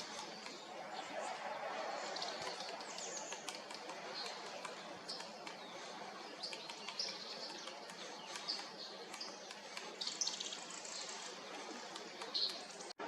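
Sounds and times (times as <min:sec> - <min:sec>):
faint background noise: 0:00.0 - 0:13.0
songbirds chirping: 0:00.0 - 0:13.0.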